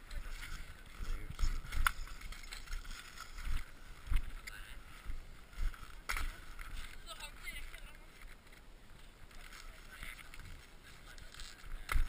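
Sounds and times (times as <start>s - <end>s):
wind and handling thumps on microphone: 0.0s - 12.0s.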